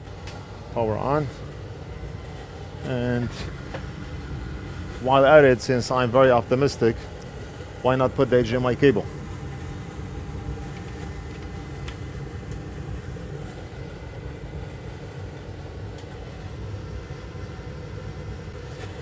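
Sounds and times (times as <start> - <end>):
computer fans whirring: 0.0 - 19.0.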